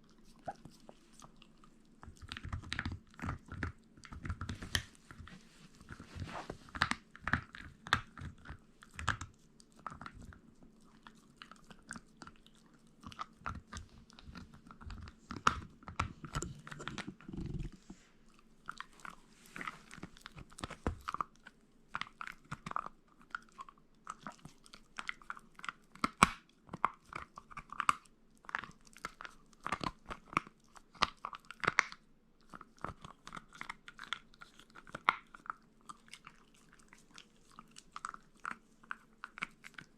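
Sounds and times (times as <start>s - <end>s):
dog chewing and crunching meat: 0.0s - 39.9s.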